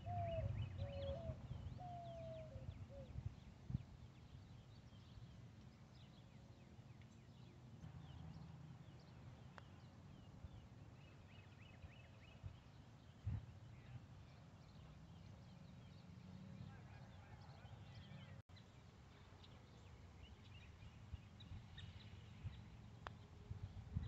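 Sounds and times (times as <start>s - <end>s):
small birds twittering: 0.0s - 24.0s.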